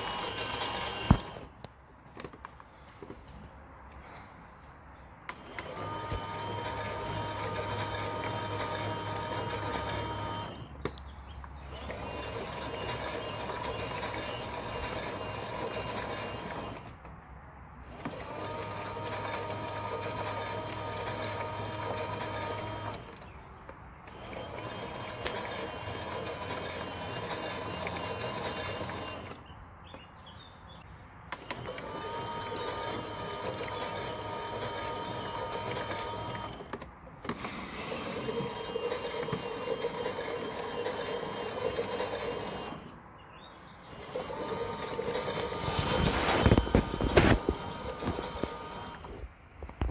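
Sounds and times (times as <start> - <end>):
small electric motor whining: 0.0 - 1.5, 5.3 - 17.1, 17.8 - 23.4, 24.0 - 29.5, 31.4 - 43.0, 43.7 - 49.3.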